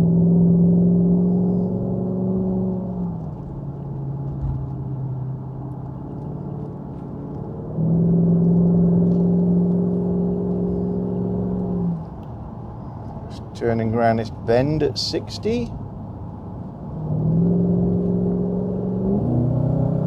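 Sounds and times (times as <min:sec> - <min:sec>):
car engine and exhaust accelerating: 0:00.0 - 0:20.0
road noise: 0:00.0 - 0:20.0.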